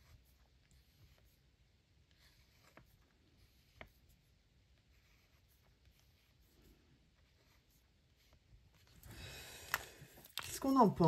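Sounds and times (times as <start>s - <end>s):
drawing on paper: 0.0s - 9.1s.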